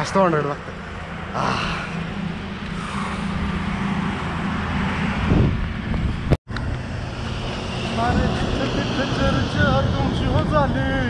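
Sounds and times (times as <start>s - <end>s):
highway traffic hum: 0.0s - 11.0s.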